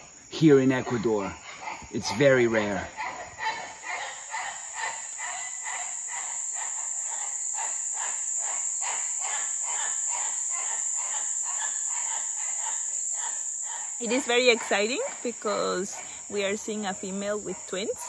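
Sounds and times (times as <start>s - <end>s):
insect chorus buzzing: 0.0s - 18.0s
pulsing insect calls: 0.0s - 18.0s.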